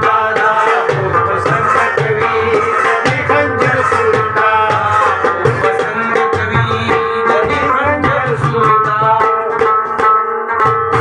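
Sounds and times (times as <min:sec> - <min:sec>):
hand drum on metal pot: 0:00.0 - 0:11.0.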